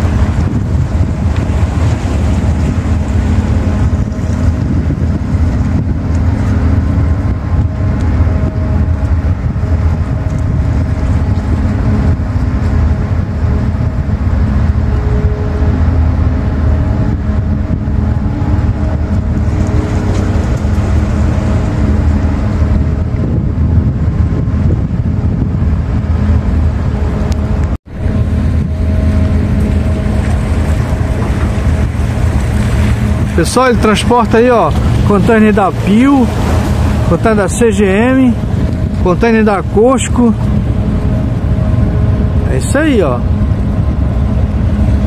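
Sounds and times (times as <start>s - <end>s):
droning hums: 0.0s - 45.0s
ship engines rumbling: 0.0s - 45.0s.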